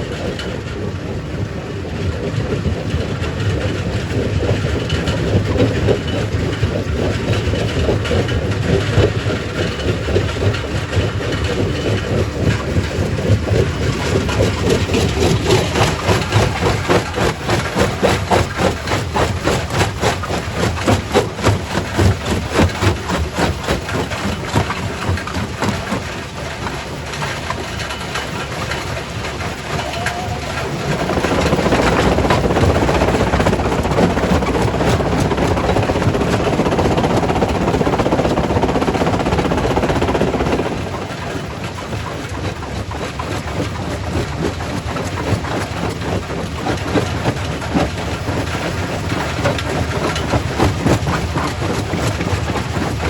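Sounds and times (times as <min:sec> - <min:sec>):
heavy machine rumble: 0:00.0 - 0:53.0.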